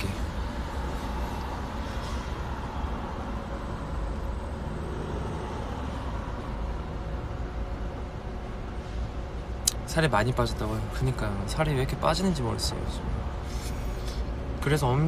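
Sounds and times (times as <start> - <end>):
car and traffic rumble: 0.0 - 15.0.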